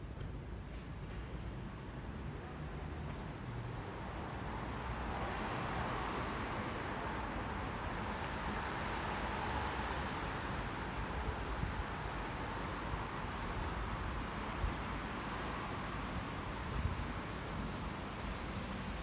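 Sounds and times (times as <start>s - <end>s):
rain: 2.6s - 19.0s.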